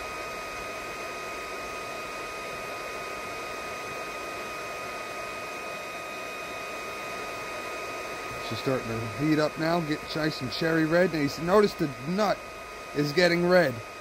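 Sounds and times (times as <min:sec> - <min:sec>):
fan rush: 0:00.0 - 0:14.0
high-pitched whine: 0:00.0 - 0:14.0.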